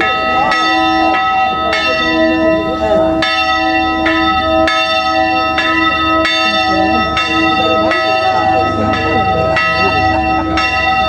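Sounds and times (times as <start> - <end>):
church bell ringing: 0.0 - 11.0.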